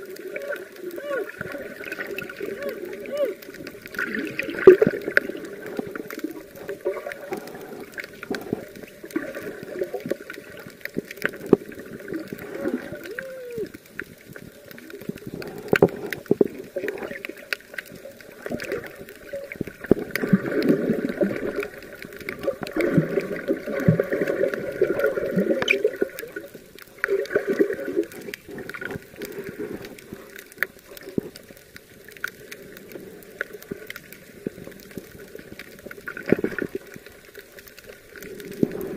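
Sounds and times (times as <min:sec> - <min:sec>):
muffled underwater gurgling: 0:00.0 - 0:38.9
small clicks and ticks: 0:00.0 - 0:38.9.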